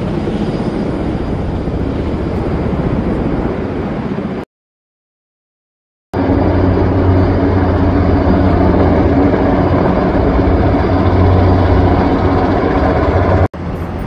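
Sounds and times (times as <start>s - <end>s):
helicopter rotor and engine: 0.0s - 4.4s, 6.2s - 14.0s.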